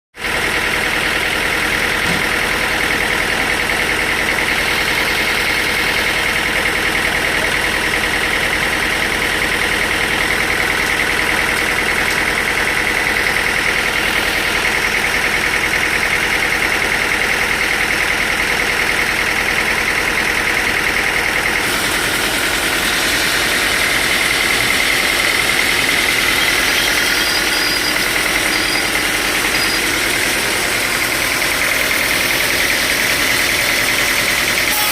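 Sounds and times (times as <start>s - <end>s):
sawmill machinery whining: 0.2s - 34.9s.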